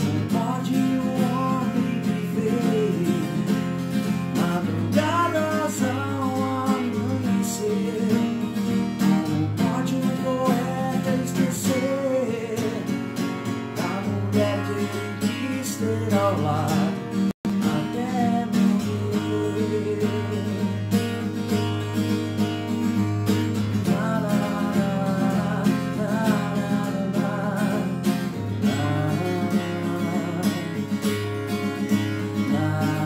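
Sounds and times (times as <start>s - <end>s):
man singing with vibrato: 0.0s - 21.2s, 23.5s - 31.4s, 32.0s - 33.0s
acoustic guitar strumming: 0.0s - 33.0s.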